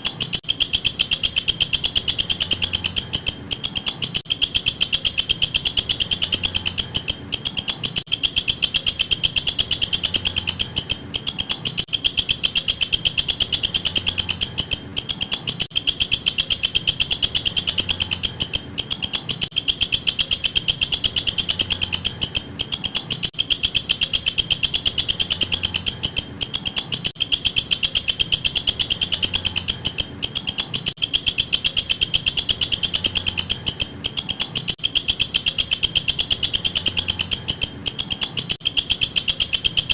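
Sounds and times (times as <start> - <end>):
bush cricket shrill pulsing: 0.0 - 39.9.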